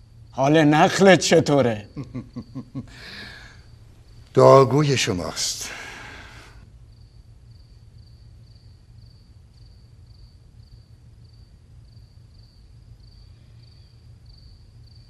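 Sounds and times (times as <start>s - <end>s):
cricket chirping: 0.0s - 15.0s
low steady hum: 0.0s - 15.0s.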